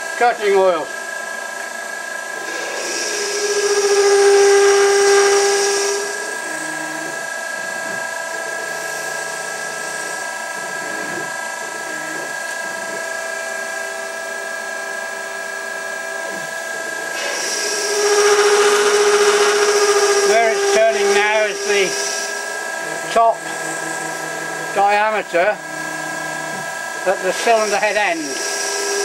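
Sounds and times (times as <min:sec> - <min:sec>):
lathe spindle whine: 0:00.0 - 0:29.0.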